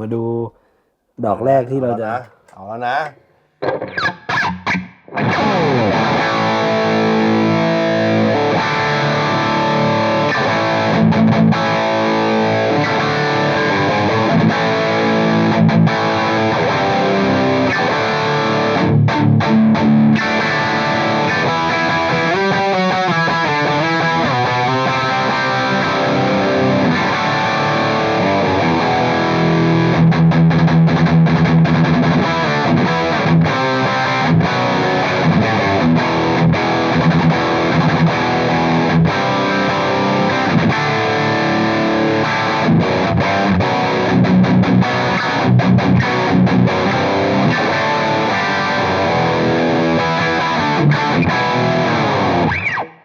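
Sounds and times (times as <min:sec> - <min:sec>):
distorted electric guitar: 0:03.6 - 0:53.0.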